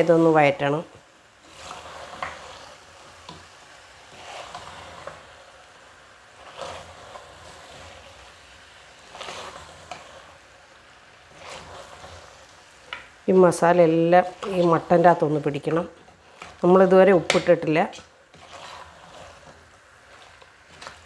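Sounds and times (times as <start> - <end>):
meat sizzling: 0.0 - 21.0
wooden spatula scraping: 0.0 - 21.0.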